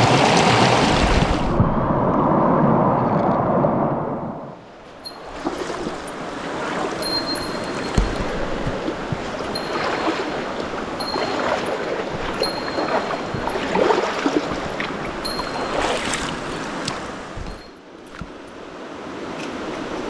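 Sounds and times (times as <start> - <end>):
stream water rushing over rocks: 0.0 - 1.6, 5.0 - 20.0.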